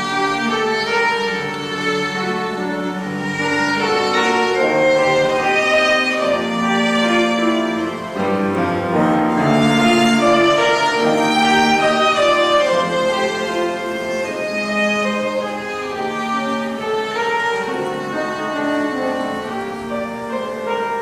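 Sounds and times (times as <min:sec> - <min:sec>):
cello: 0:00.0 - 0:21.0
piano: 0:00.0 - 0:21.0
violin: 0:00.0 - 0:21.0.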